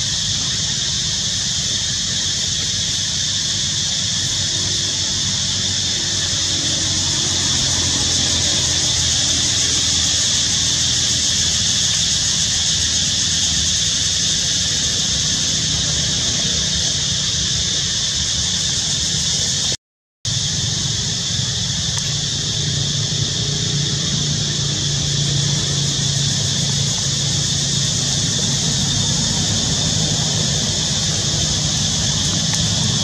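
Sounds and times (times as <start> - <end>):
outdoor background hiss: 0.0 - 33.0.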